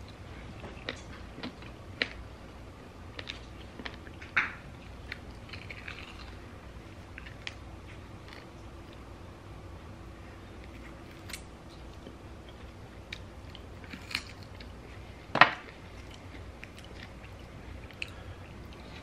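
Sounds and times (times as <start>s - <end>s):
person chewing and biting: 0.0s - 2.3s, 3.1s - 9.1s, 10.5s - 19.0s.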